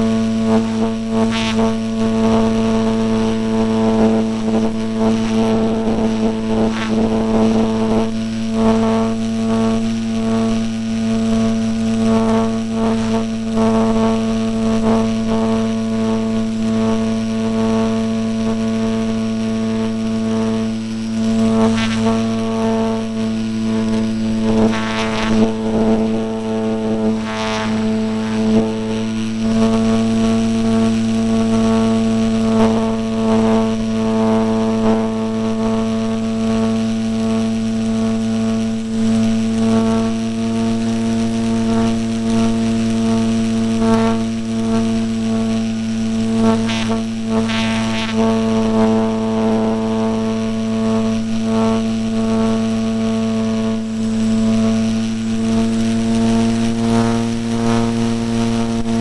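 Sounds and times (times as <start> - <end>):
air noise surges: 0.0 - 59.0
electric propeller drone: 0.0 - 59.0.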